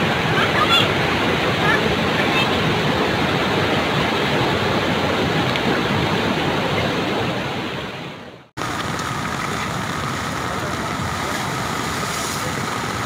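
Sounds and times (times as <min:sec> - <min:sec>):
river rushing through rapids: 0:00.0 - 0:13.0.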